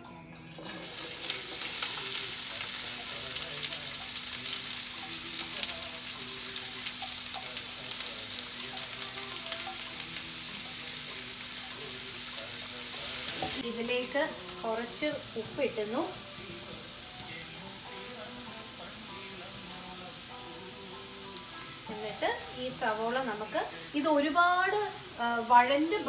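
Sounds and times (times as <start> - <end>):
onions sizzling in oil: 0.5 - 26.0.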